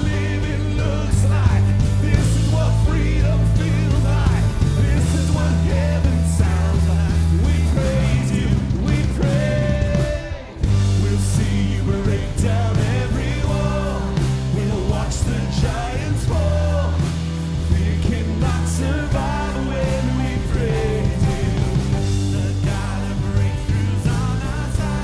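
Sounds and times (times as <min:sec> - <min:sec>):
people singing: 0:00.0 - 0:25.0
rock band playing: 0:00.0 - 0:25.0.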